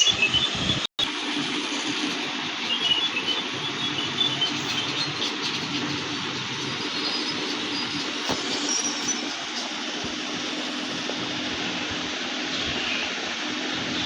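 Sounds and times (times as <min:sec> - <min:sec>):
steady rushing hiss: 0:01.1 - 0:13.9.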